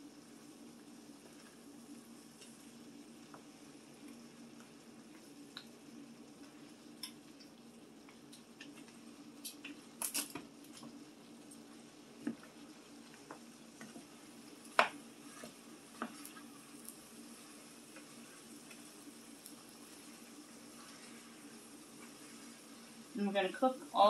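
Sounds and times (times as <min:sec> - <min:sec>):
faint steady hum: 0:00.0 - 0:24.0
utensil stirring in frying pan: 0:00.0 - 0:24.0.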